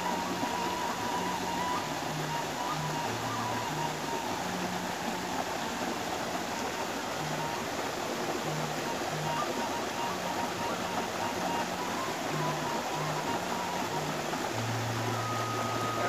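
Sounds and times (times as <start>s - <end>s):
river cascade rushing: 0.0s - 16.0s.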